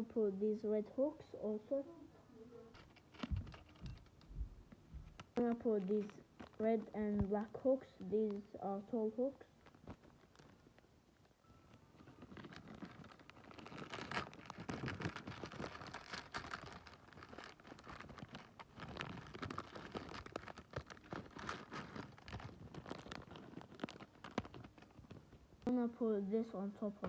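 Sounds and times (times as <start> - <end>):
packaging crinkling and rustling: 2.7 - 4.3, 5.0 - 25.7.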